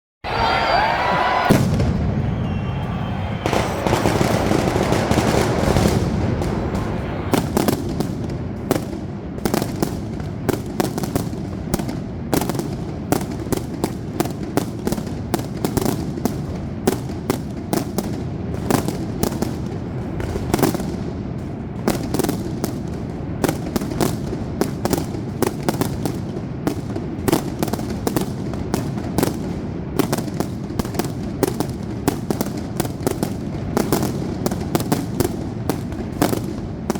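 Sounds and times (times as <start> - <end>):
fireworks bursting: 0.3 - 36.9
low rumble of fireworks: 0.3 - 36.9.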